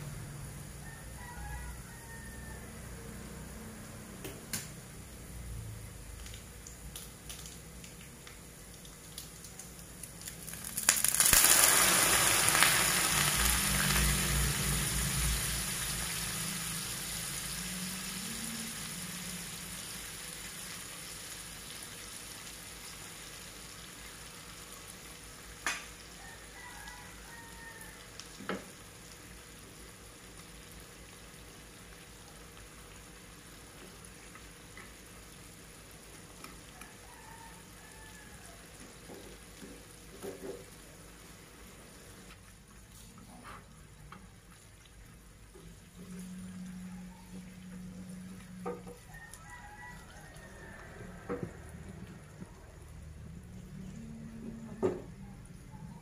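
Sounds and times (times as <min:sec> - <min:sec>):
peanuts frying in oil: 0:00.0 - 0:56.0
egg sizzling in hot pan: 0:06.0 - 0:42.9, 0:43.9 - 0:53.2.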